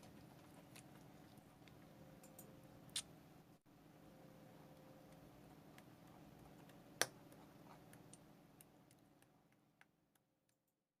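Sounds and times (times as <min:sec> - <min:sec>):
low steady hum: 0:00.0 - 0:10.5.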